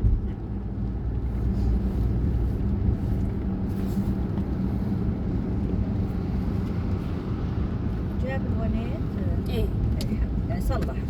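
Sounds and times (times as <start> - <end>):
car interior rumble: 0.0 - 11.0.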